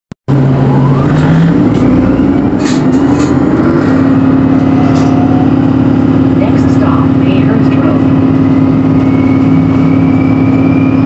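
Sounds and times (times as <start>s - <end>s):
bus engine drone: 0.3s - 11.0s
rising electric whine: 0.3s - 11.0s.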